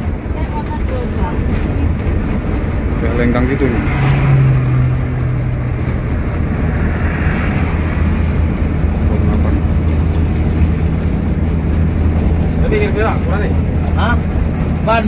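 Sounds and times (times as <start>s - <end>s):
bus engine and tyre drone: 0.0s - 15.0s.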